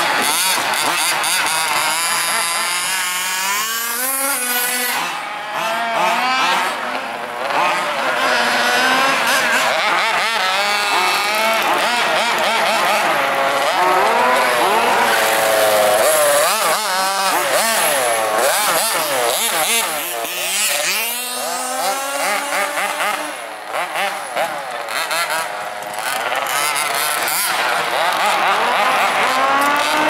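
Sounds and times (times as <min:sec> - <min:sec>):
model buggy engines revving: 0:00.0 - 0:30.0.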